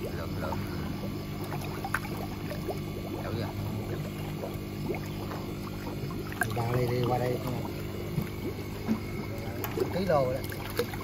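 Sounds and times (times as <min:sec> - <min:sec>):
low motor hum: 0:00.0 - 0:11.0
water splashing and trickling: 0:00.0 - 0:11.0.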